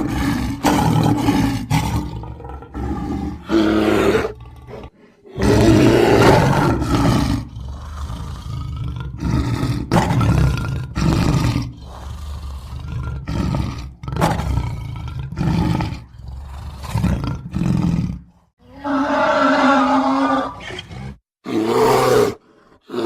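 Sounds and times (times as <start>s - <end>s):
bear roaring and growling: 0.0s - 23.0s.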